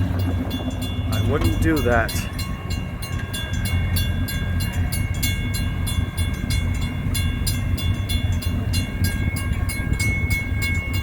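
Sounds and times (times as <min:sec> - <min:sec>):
freight train rumbling: 0:00.0 - 0:11.0
railroad crossing bells ringing: 0:00.0 - 0:11.0.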